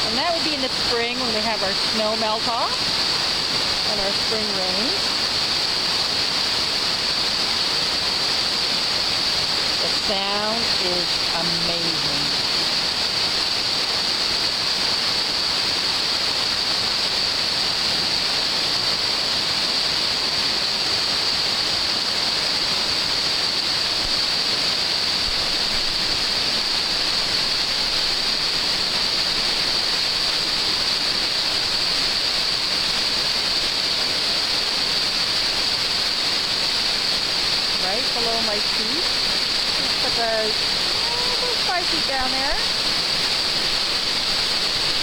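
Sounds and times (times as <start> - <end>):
waterfall rapids rushing: 0.0 - 45.0.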